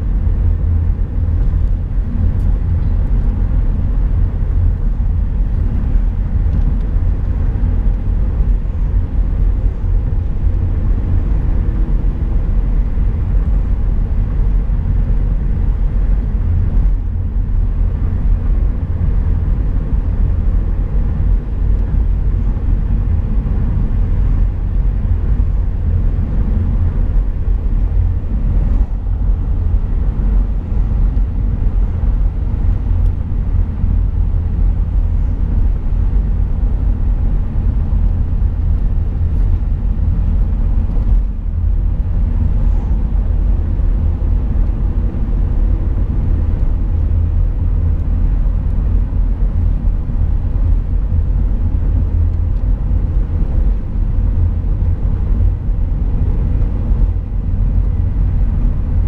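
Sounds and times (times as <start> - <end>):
car engine: 0.0 - 59.0
tyre and road noise: 0.0 - 59.0.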